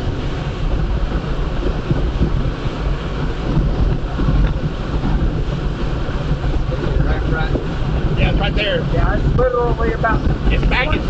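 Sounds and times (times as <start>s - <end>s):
strong wind buffeting vehicle: 0.0s - 11.0s.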